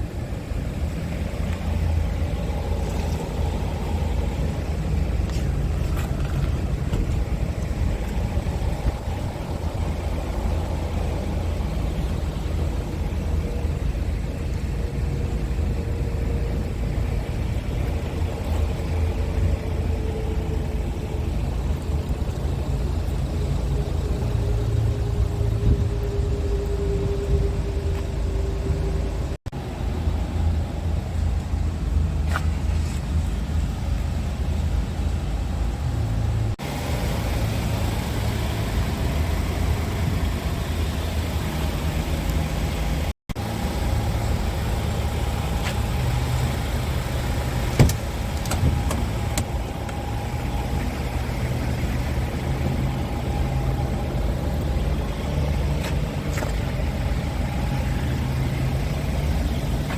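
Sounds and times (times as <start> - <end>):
truck diesel engine rumbling: 0.0 - 59.9.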